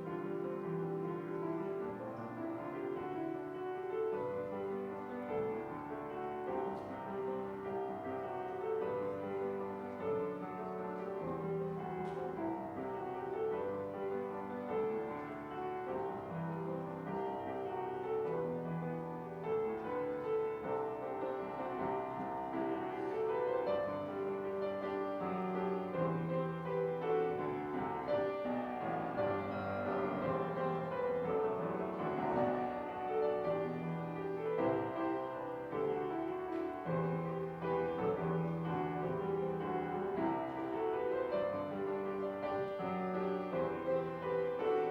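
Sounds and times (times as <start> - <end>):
slow piano music: 0.0 - 44.9.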